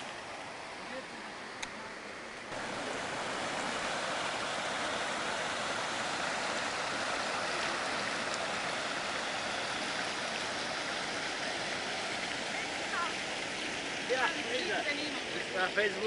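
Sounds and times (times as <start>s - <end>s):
river water rushing over weir: 0.0s - 16.0s.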